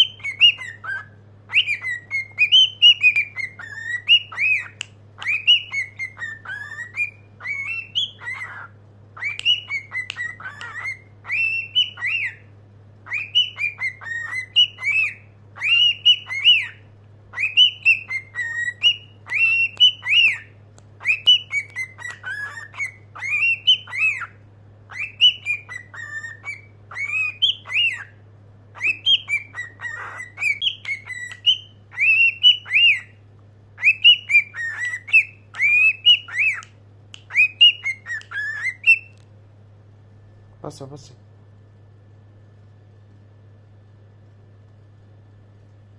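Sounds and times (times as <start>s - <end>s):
cockatiel whistling: 0.0s - 33.2s, 33.8s - 39.2s
faint low hum: 0.0s - 45.9s.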